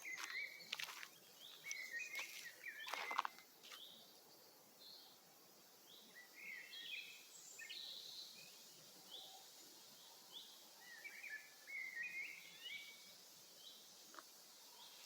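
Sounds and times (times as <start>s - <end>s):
forest birds chirping: 0.0s - 15.0s.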